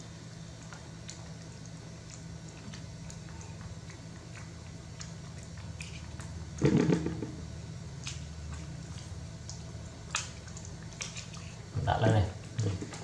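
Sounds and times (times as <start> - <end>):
steady low hum: 0.0 - 13.0
wet eating sounds: 0.4 - 13.0.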